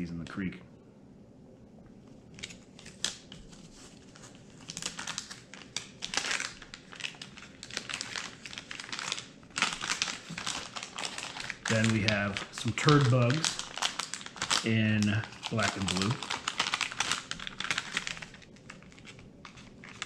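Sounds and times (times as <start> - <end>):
plastic packaging crinkling: 2.3 - 20.0.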